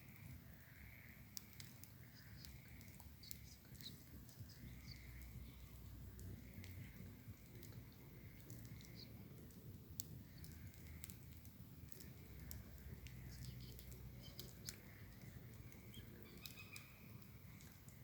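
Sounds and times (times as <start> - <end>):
wood bonfire crackling: 0.0 - 18.0
low steady rumble: 3.6 - 18.0.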